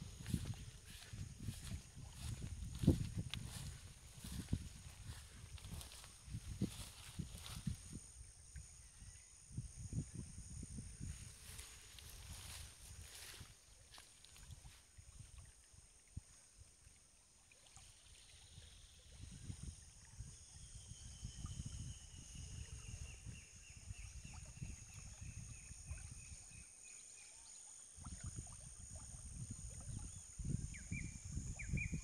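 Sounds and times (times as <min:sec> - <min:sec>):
wind gusts on microphone: 0:00.0 - 0:13.6, 0:18.5 - 0:26.6, 0:28.0 - 0:32.0
high insect drone: 0:00.0 - 0:16.8, 0:17.9 - 0:32.0.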